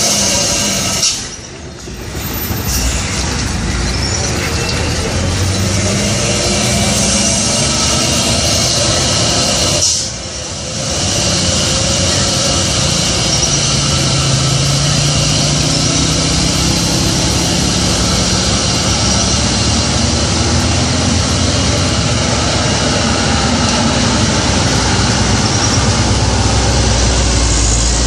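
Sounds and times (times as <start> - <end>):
passing cars: 0.0 - 28.0
truck engines running: 0.0 - 28.0.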